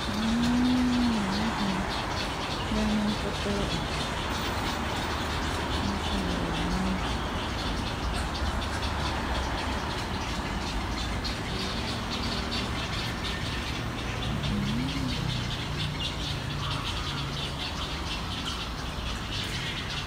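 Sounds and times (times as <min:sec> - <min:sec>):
birds squawking: 0:00.0 - 0:20.0
low rumble of road traffic: 0:00.0 - 0:20.0.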